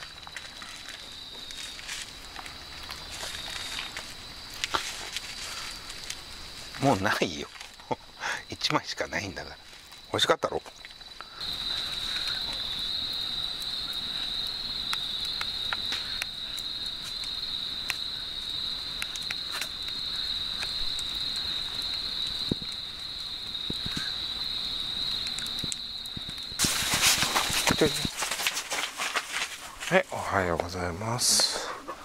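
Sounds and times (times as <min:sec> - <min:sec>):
night insects chirring: 0:00.0 - 0:32.0
wood fire crackling: 0:00.0 - 0:32.0.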